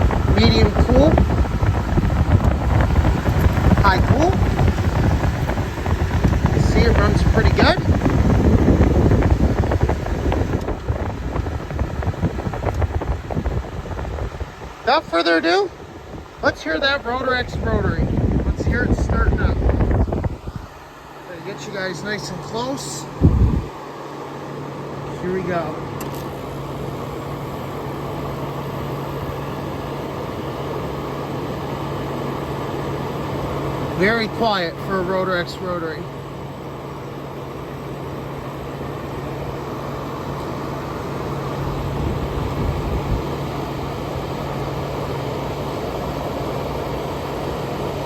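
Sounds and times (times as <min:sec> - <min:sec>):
air conditioner fan blowing: 0:00.0 - 0:48.0.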